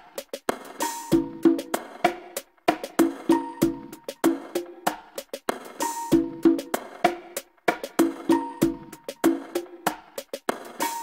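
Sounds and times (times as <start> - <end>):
quick percussive beat: 0.0 - 11.0.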